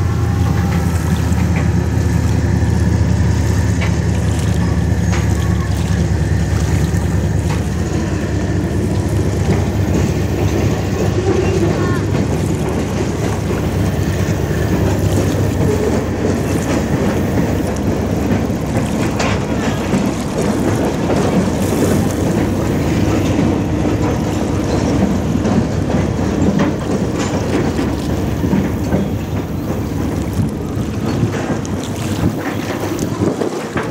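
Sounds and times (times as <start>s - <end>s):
train rumbling over bridge: 0.0s - 33.9s.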